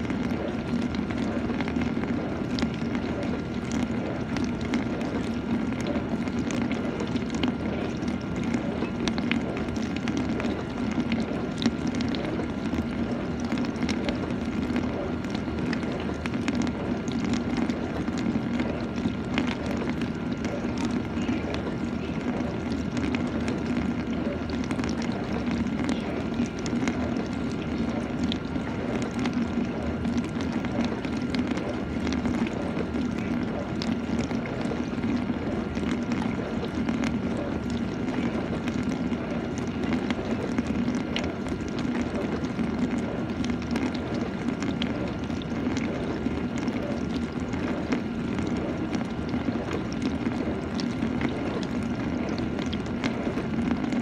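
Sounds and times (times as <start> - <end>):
dishwasher pump hum: 0.0 - 54.0.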